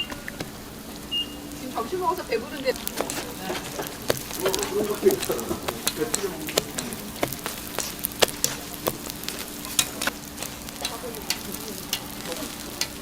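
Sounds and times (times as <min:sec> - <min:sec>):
pancakes sizzling in oil: 0:00.0 - 0:13.0.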